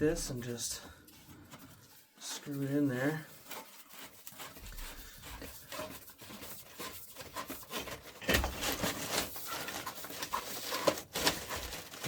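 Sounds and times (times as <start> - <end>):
pipe threads scraping and clicking: 0.0 - 12.0.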